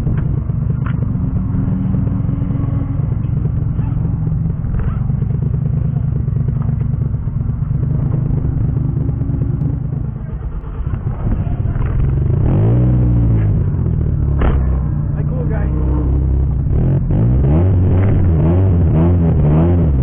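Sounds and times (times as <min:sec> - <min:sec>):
car engine idling: 0:00.0 - 0:19.6.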